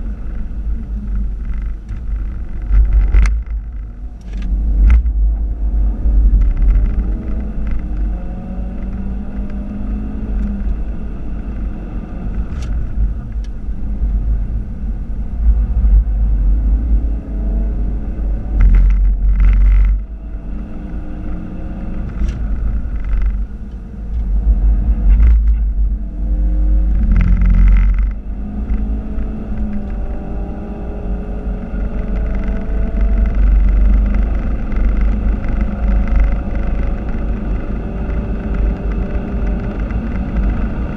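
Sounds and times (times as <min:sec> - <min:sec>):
car engine revving at full throttle: 0:00.0 - 0:40.9
road and tyre rumble: 0:00.0 - 0:40.9.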